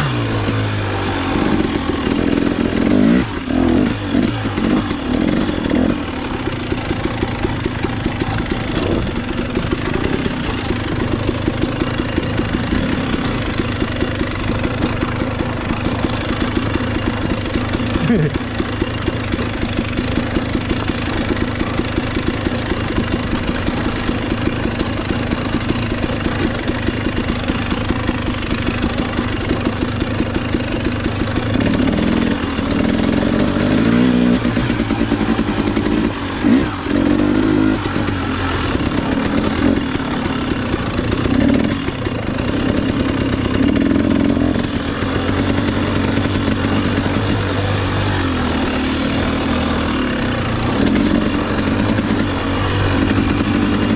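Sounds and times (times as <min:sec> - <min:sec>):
two-stroke engine revving: 0:00.0 - 0:53.9.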